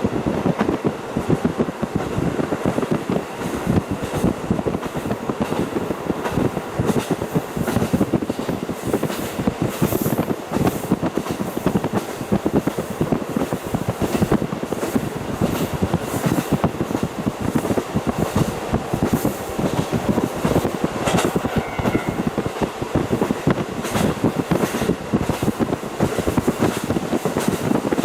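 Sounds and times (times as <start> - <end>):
train wheels clattering on rail: 0.0 - 28.0.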